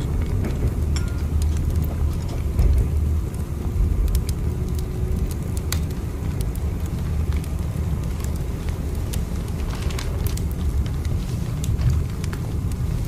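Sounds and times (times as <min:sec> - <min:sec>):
light crackles and clicks: 0:00.0 - 0:13.0
moving train rumble: 0:00.0 - 0:13.0.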